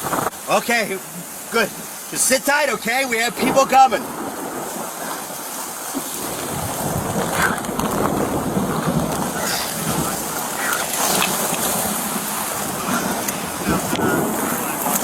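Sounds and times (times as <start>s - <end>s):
heavy rain and wind hiss: 0.0s - 15.0s.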